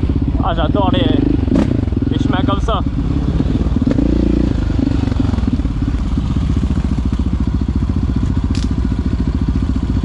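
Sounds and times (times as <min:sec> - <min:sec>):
quad engine running: 0:00.0 - 0:10.0.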